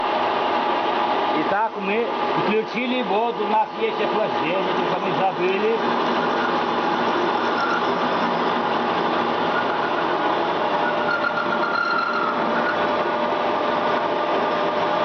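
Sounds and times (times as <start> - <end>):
lathe whirring: 0.0 - 15.0.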